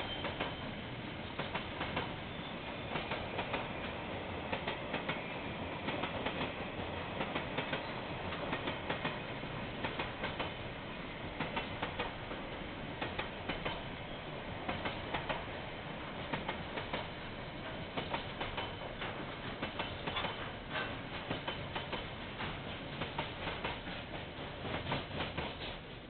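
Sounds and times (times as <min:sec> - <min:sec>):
train wheels clacking over rail joints: 0:00.0 - 0:10.6, 0:11.3 - 0:25.9
train rumble: 0:00.0 - 0:26.0.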